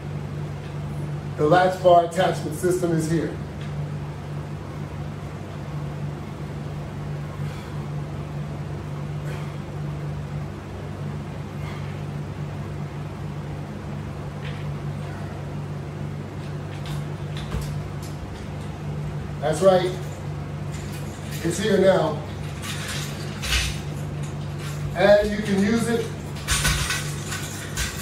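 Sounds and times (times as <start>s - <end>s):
air conditioner humming: 0.0s - 28.0s.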